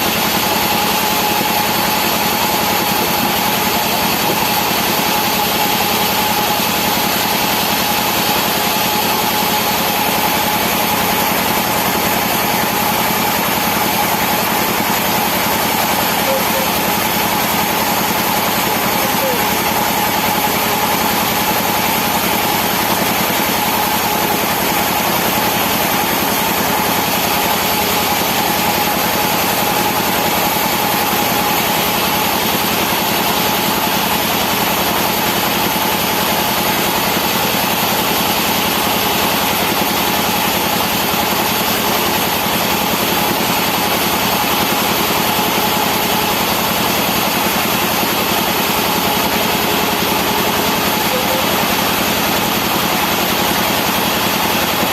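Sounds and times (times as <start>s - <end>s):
sawmill machinery engine hum: 0.0s - 54.9s.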